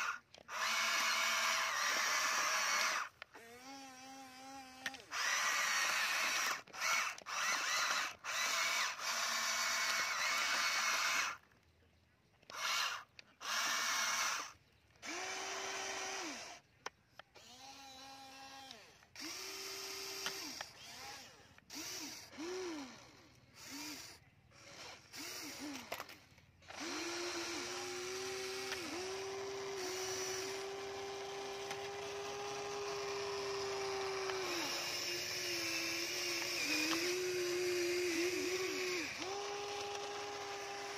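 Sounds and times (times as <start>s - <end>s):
electric motors whining: 0.0s - 11.5s, 12.4s - 40.9s.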